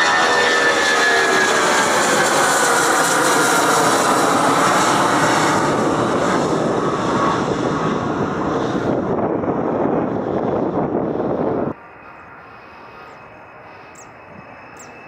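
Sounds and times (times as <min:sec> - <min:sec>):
jet engines roaring with whine: 0:00.0 - 0:15.0.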